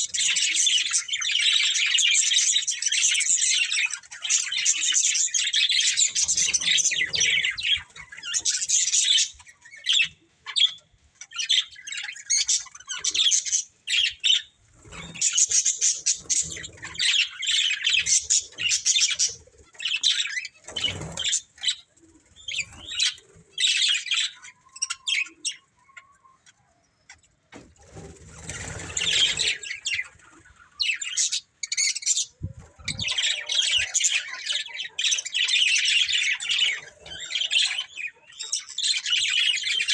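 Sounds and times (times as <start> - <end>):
budgerigars chirping: 0.0 - 27.2, 27.9 - 39.9.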